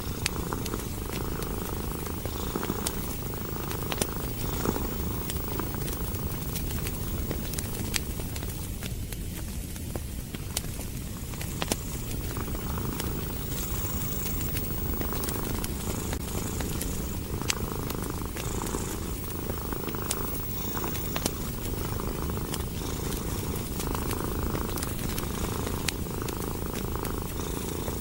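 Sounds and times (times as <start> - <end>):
cat purring: 0.0 - 28.0
wood fire crackling: 0.0 - 28.0.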